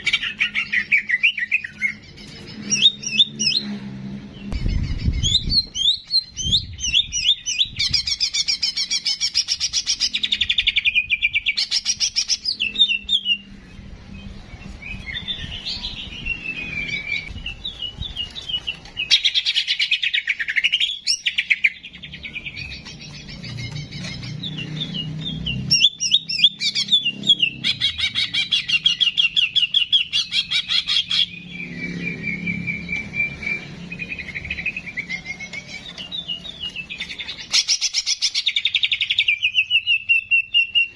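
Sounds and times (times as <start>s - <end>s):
bird singing trills and whistles: 0.0s - 3.8s, 4.4s - 40.9s.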